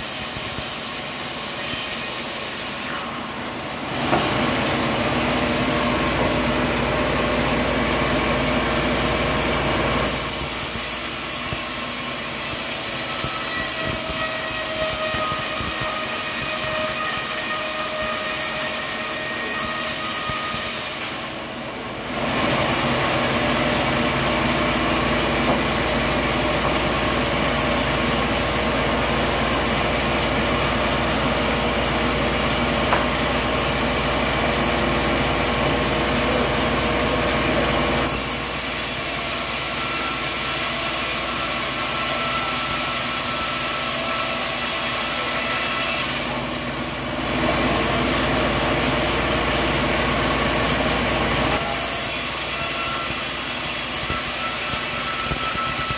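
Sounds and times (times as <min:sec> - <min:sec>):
sawmill machinery din: 0:00.0 - 0:55.9.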